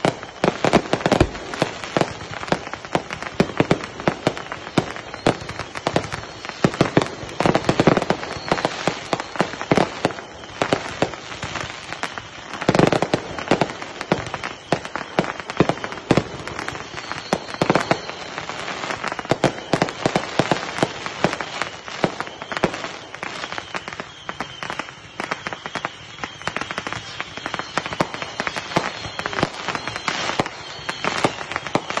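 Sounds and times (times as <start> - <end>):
fireworks crackling and popping: 0.0 - 32.0
fireworks sharp bangs: 0.0 - 32.0.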